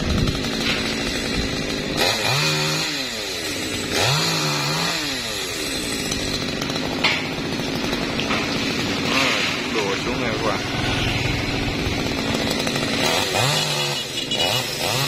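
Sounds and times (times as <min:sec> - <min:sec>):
chainsaw revving: 0:00.0 - 0:15.0.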